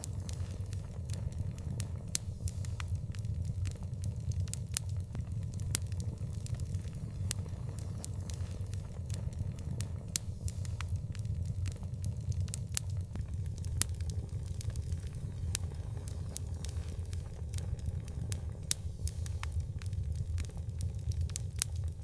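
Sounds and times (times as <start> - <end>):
fire popping and snapping: 0.0 - 22.0
steady low rumble: 0.0 - 22.0
wood fire crackling: 0.0 - 22.0.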